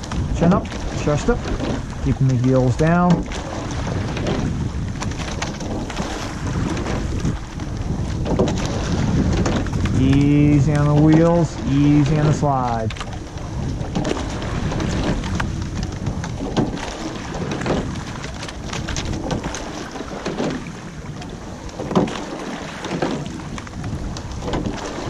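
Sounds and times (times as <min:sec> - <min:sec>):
oars knocking in oarlocks: 0:00.0 - 0:25.0
oars splashing in water: 0:00.0 - 0:25.0
water rushing along hull: 0:00.0 - 0:25.0
wind on microphone: 0:00.0 - 0:25.0.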